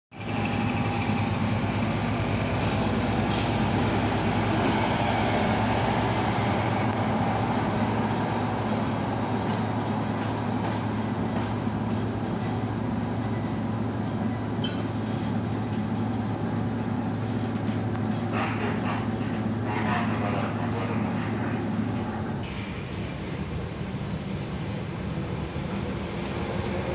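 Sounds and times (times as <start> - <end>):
diesel engine humming: 0.2 - 26.9.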